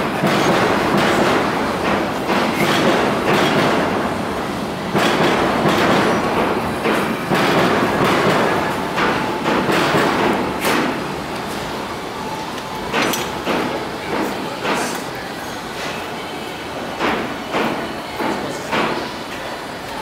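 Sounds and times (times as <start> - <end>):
train clacks: 0.0 - 19.5.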